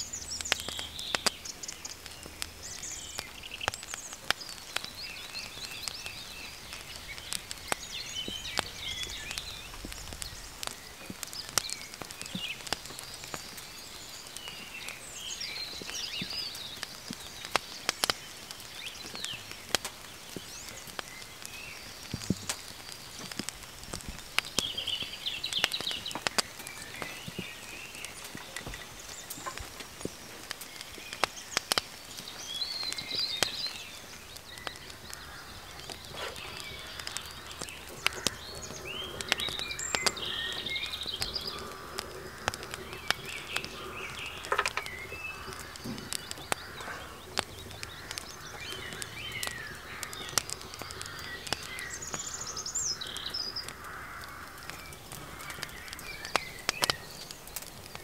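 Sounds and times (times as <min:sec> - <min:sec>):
faint steady hiss: 0:00.0 - 0:58.0
sharp ticks and pops: 0:00.0 - 0:58.0
songbirds warbling: 0:00.0 - 0:58.0.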